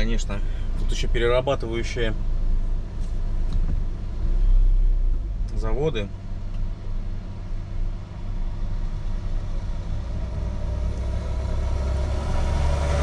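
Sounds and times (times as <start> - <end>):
diesel engine idling: 0.0 - 12.4
heavier vehicle rumble: 0.0 - 13.0.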